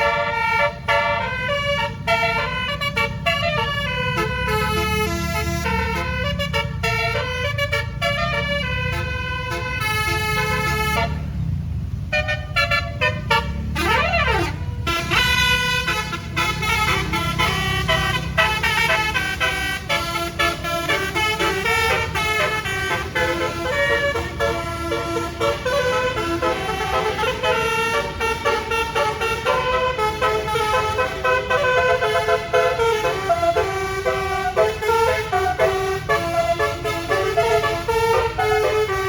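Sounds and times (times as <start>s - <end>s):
musical air horn tune: 0.0s - 11.2s, 12.1s - 39.0s.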